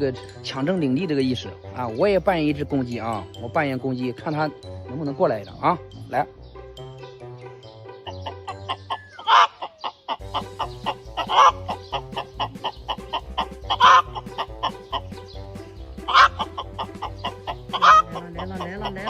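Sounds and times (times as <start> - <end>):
background music with steady beat: 0.0 - 19.0.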